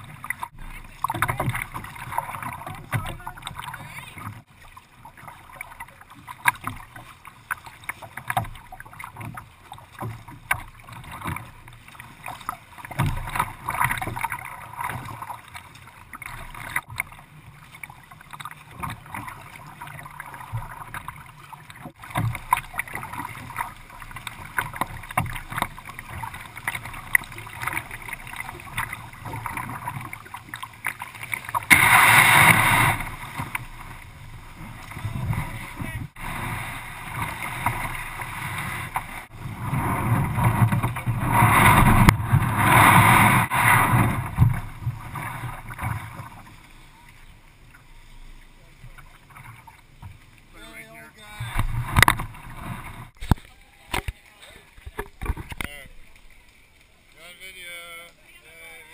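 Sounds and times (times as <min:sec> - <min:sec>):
water splashing against kayak hull: 0:00.0 - 0:58.9.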